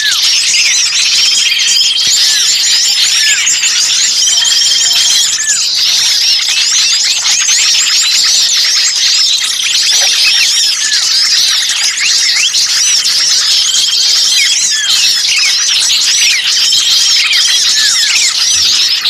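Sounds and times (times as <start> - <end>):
chorus of small birds chirping: 0.0 - 19.0.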